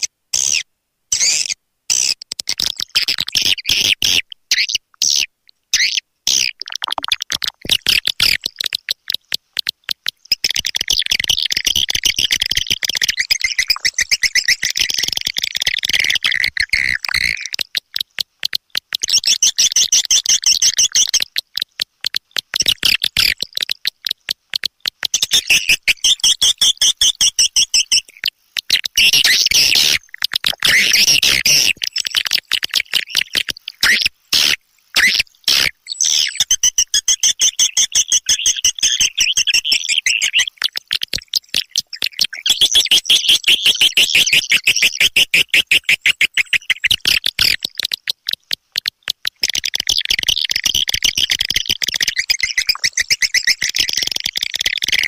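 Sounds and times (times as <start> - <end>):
recorded swiftlet twittering chirps: 0.0 - 55.0.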